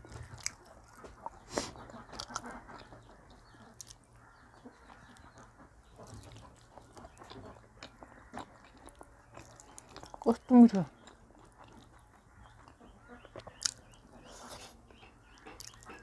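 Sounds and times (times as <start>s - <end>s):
wet chewing and lip smacks: 0.2s - 16.0s.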